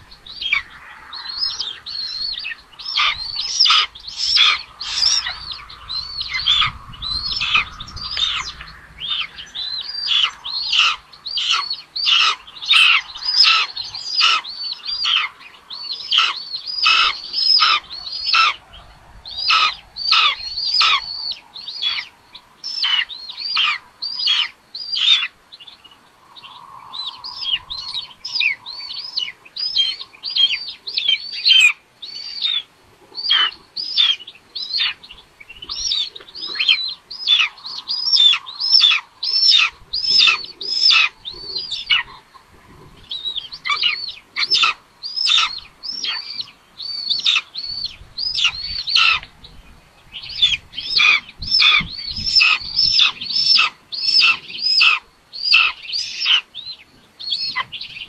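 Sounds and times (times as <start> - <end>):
young birds of prey calling: 0.0 - 58.0.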